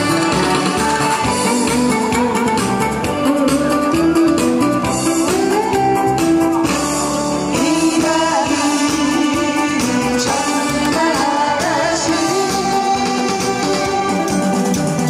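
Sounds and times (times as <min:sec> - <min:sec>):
person singing over backing track: 0:00.0 - 0:15.0.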